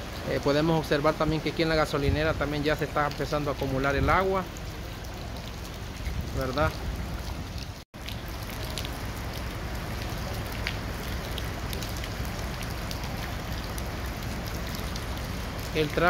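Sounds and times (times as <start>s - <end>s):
rain on pavement: 0.0s - 16.0s.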